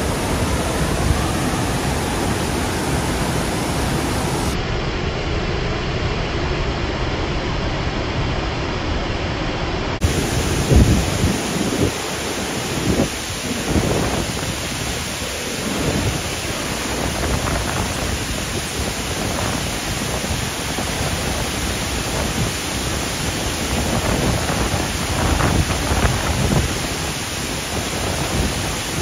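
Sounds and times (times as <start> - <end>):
waterfall rushing: 0.0 - 4.6, 9.9 - 29.0.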